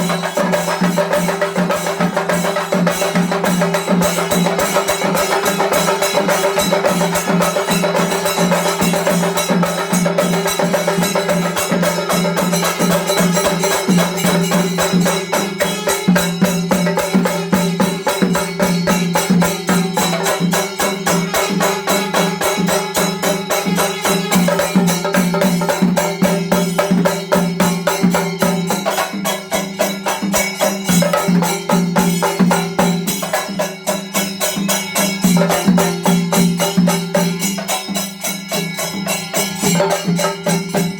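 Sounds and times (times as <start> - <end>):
drum ensemble playing: 0.0 - 40.9.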